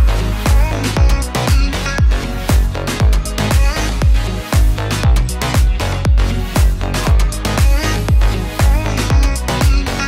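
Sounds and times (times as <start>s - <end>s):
kick drum: 0.0s - 9.9s
dance music: 0.0s - 10.0s.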